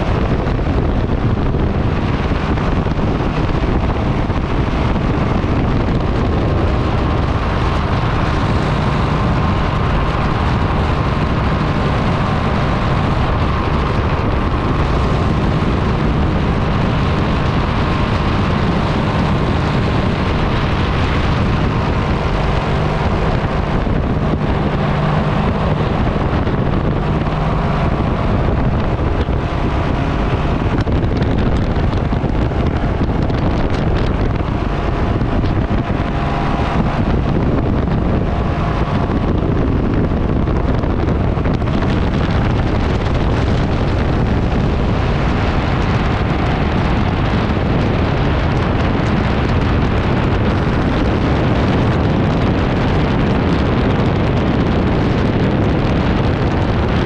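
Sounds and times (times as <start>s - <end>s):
paramotor engine and propeller: 0.0s - 57.0s
wind rush on microphone: 0.0s - 57.0s.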